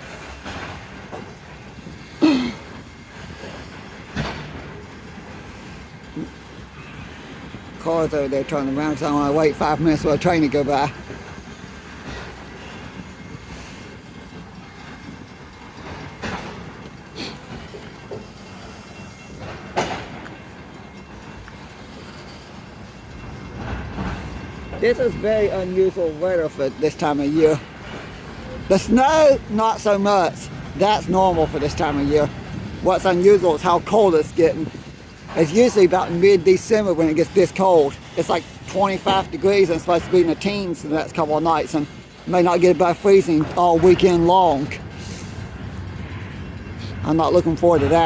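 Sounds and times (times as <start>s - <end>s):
train wheels clicking over rail joints: 0.0s - 48.0s.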